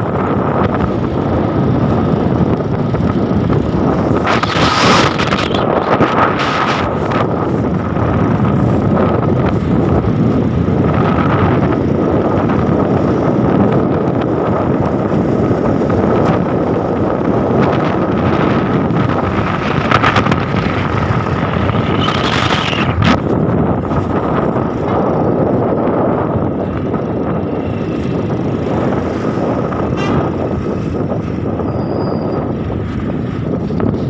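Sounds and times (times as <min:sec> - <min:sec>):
motorcycle engine and road noise: 0:00.0 - 0:34.0
wind on microphone: 0:00.0 - 0:34.0.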